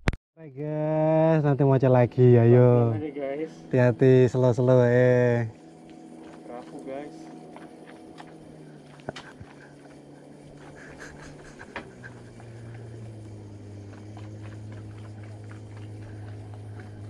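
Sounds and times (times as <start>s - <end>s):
boat engine running: 0.6s - 17.0s.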